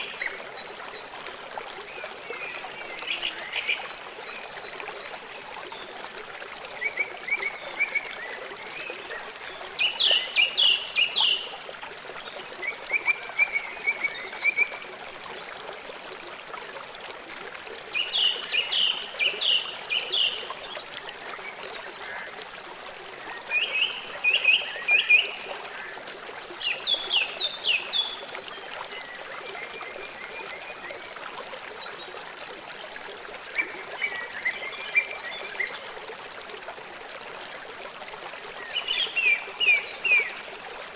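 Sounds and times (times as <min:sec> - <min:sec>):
stream running: 0:00.0 - 0:40.9.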